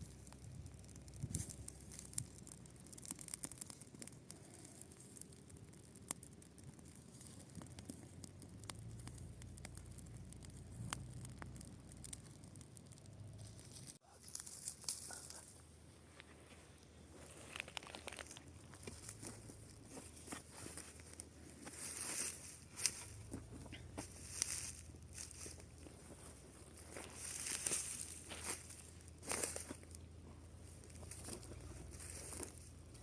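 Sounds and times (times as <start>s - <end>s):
dry grass crackling and rustling: 0.0s - 33.0s.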